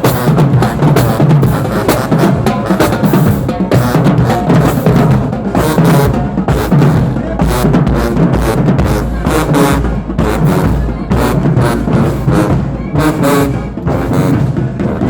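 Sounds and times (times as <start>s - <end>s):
bass drums pounding: 0.0s - 15.0s
brass section playing: 0.0s - 15.0s
snare drums: 0.0s - 15.0s.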